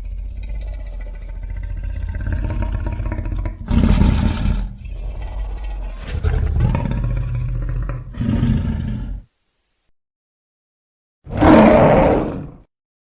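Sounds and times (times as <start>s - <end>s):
creature growling and roaring: 0.0s - 9.2s, 11.3s - 12.7s.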